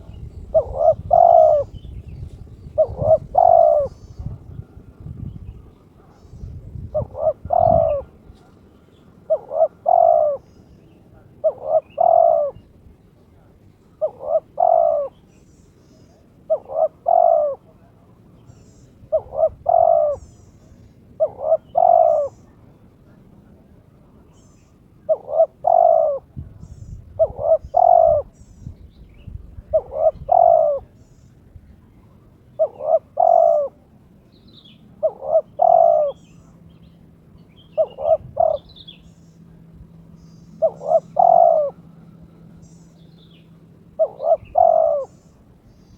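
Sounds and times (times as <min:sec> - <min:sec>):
dove cooing: 0:00.0 - 0:22.8, 0:23.8 - 0:28.7, 0:29.6 - 0:45.9.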